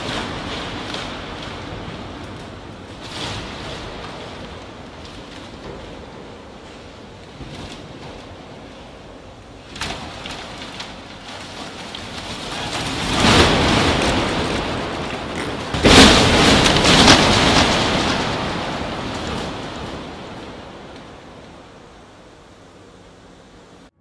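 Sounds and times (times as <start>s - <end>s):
loud crash of structure collapsing: 0.0s - 22.7s
rumble of house shaking: 0.0s - 24.0s.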